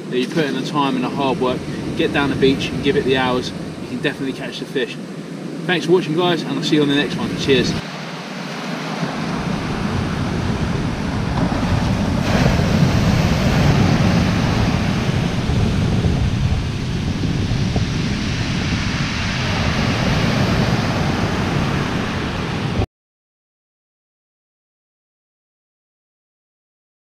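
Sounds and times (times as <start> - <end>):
wind rumbling on microphone: 0.0 - 22.9
waves washing up shingle: 0.1 - 22.8.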